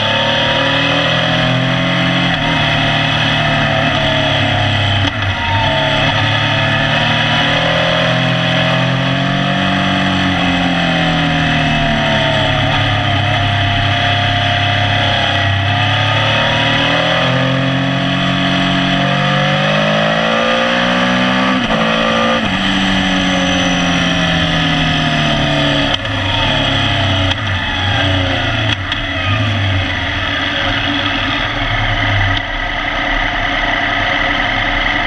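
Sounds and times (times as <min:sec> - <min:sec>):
motorcycle engine revving: 0:00.0 - 0:35.0
wind and road noise: 0:00.0 - 0:35.0.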